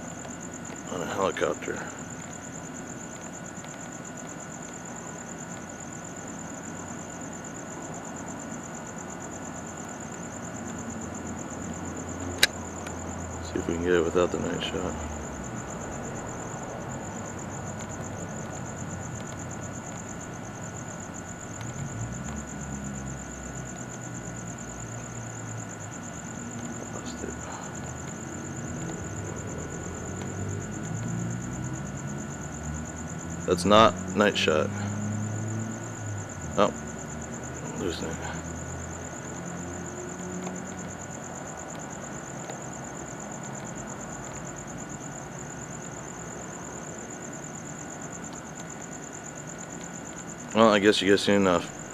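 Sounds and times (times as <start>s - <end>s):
crickets chirping: 0.0s - 51.9s
faint ticks: 0.1s - 0.9s, 1.7s - 7.5s, 9.2s - 13.6s, 14.4s - 33.4s, 34.6s - 50.6s.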